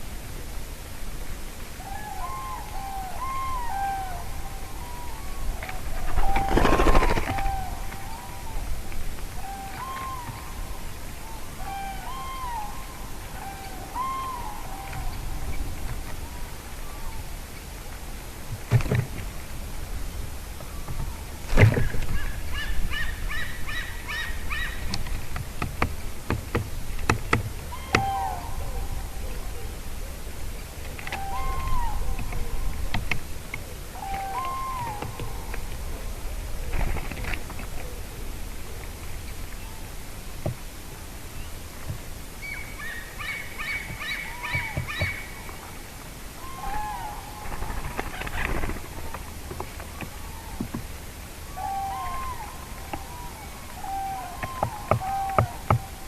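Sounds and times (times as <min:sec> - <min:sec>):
cranes calling: 0:01.6 - 0:18.5, 0:19.2 - 0:40.0, 0:41.3 - 0:56.0.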